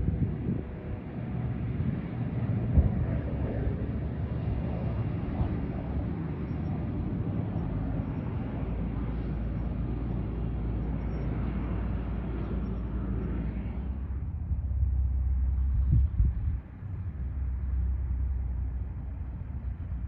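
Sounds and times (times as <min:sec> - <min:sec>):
turboprop plane engine rumble: 0:00.0 - 0:20.0.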